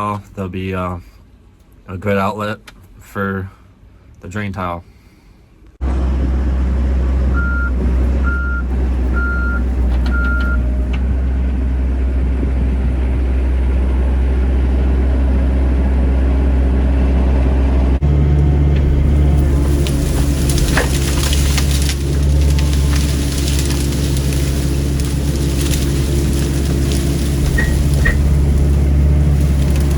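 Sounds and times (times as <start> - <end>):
excavator diesel engine running: 5.8 - 29.9.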